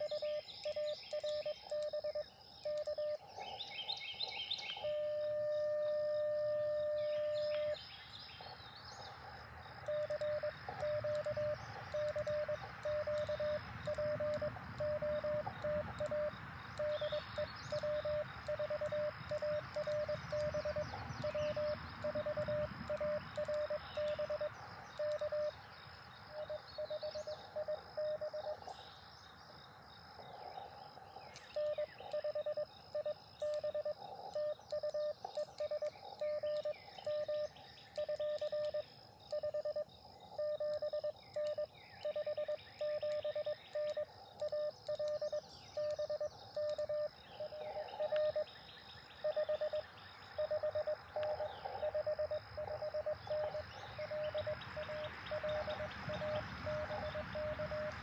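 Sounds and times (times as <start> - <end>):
morse code tones: 0.0 - 3.2, 4.7 - 7.8, 9.9 - 25.6, 26.3 - 28.6, 31.5 - 48.5, 49.2 - 58.0
faint radio hiss: 0.0 - 58.0.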